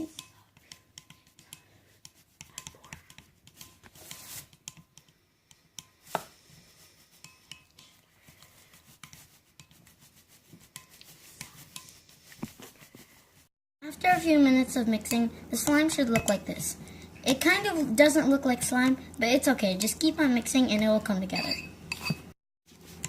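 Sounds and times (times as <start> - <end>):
chopstick stirring slime in bowl: 0.0 - 13.1, 13.9 - 23.0.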